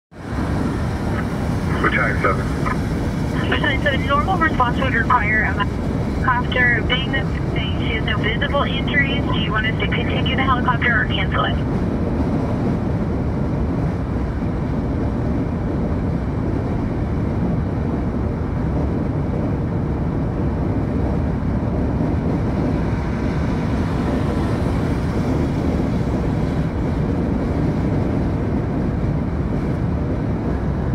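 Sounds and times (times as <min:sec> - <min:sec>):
vehicle road and engine rumble: 0:00.1 - 0:30.9.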